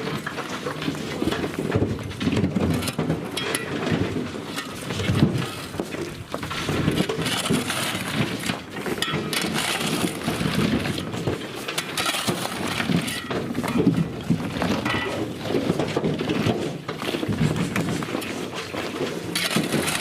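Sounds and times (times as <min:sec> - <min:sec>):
falling rock clattering: 0:00.0 - 0:20.0.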